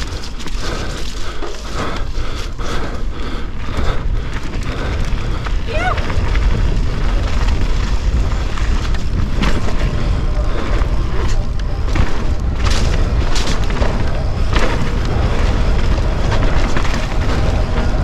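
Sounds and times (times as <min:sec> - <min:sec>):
bike rattling over bumps: 0:00.0 - 0:18.0
tyre noise on dirt: 0:00.0 - 0:18.0
wind buffeting microphone: 0:00.0 - 0:18.0.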